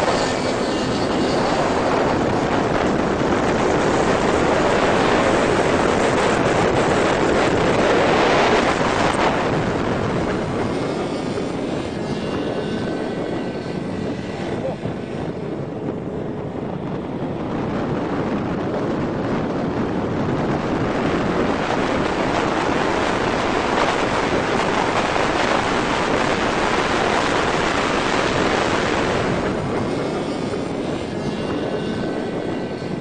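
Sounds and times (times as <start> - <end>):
faint engine whine: 0.0 - 33.0
road and engine noise: 0.0 - 33.0
wind rushing over microphone: 0.0 - 33.0.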